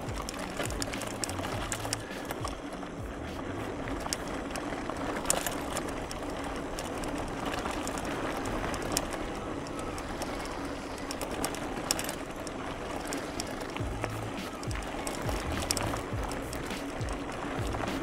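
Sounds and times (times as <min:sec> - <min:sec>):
mountain bike tyres on dirt: 0:00.0 - 0:18.0
sharp clicks and rattles: 0:00.0 - 0:18.0
wind noise: 0:00.0 - 0:18.0.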